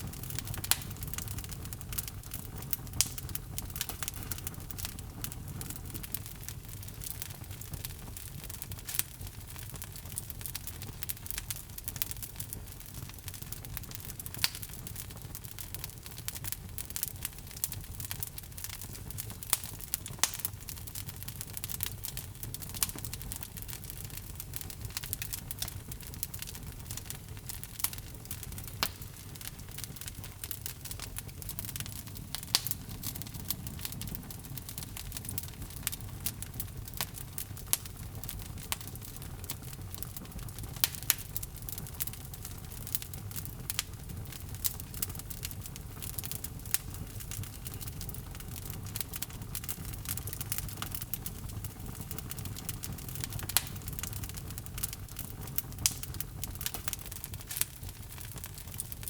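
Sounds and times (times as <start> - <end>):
fire low rumble: 0.0 - 59.0
logs crackling and popping: 0.0 - 59.0.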